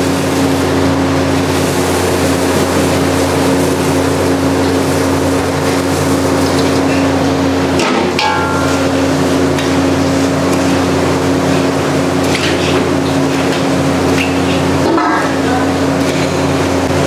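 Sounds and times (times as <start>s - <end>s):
kitchen equipment drone: 0.0s - 17.0s.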